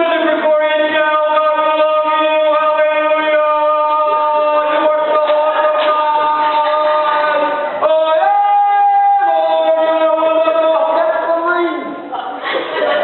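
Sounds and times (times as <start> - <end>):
congregation singing held notes: 0.0 - 12.0.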